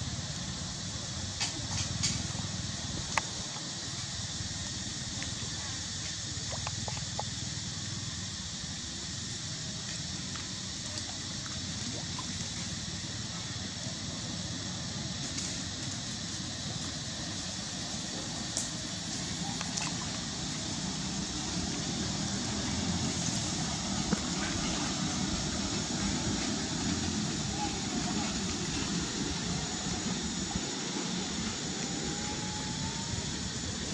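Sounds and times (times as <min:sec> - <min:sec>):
rushing outdoor background noise: 0:00.0 - 0:33.9.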